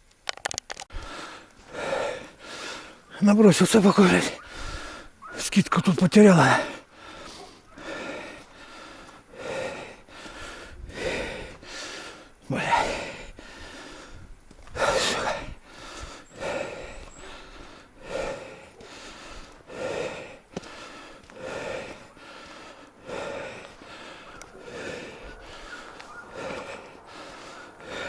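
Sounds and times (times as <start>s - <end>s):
person breathing hard: 0.9s - 3.2s, 4.3s - 5.2s, 6.4s - 28.0s.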